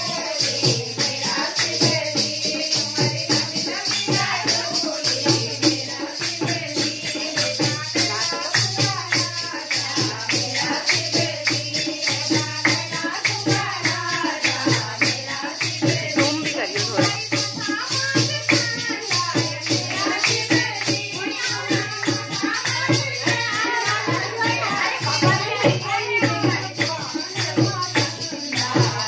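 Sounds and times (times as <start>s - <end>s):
jingling metal percussion: 0.0s - 29.0s
women singing devotional song: 0.0s - 29.0s.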